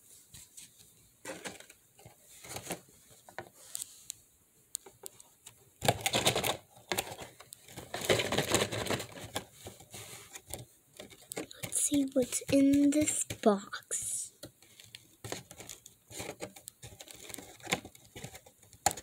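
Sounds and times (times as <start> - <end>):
cardboard rustling and crackling: 0.1 - 4.0, 5.8 - 13.6, 14.4 - 19.0.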